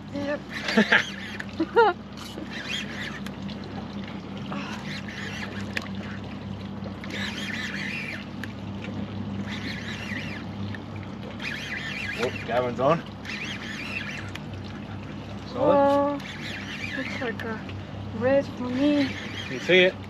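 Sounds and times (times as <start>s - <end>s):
boat motor idling: 0.0s - 20.0s.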